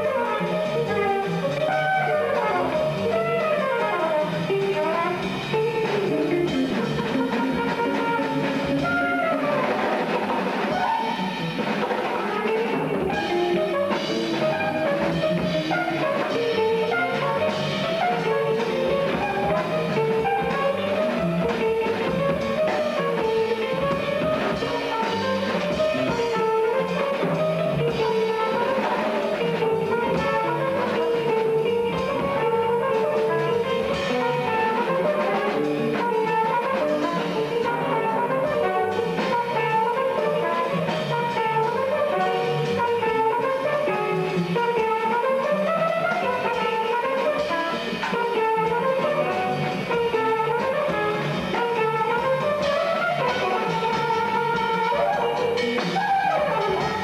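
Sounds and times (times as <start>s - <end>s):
double bass: 0.0s - 57.0s
drum kit: 0.0s - 57.0s
electric guitar playing jazz lines: 0.0s - 57.0s.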